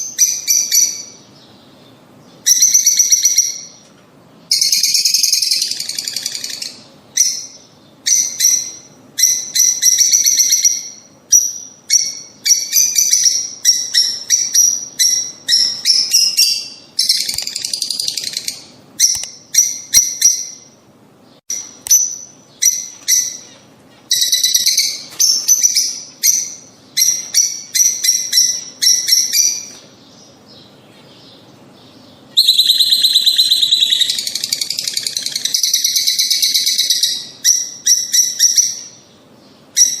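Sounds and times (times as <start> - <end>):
lovebirds chattering: 4.5 - 40.0.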